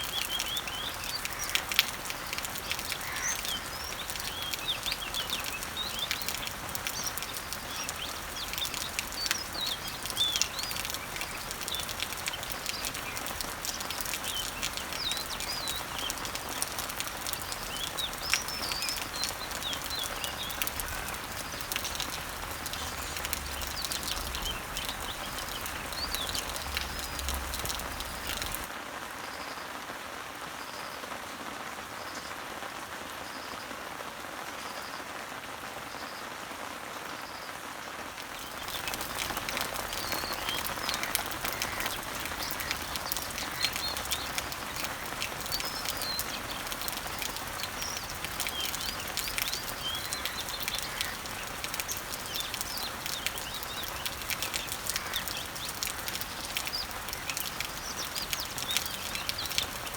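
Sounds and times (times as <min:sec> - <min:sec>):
birds chirping and twittering: 0:00.0 - 0:28.7, 0:38.2 - 0:59.9
rain pattering on leaves: 0:00.0 - 0:59.9.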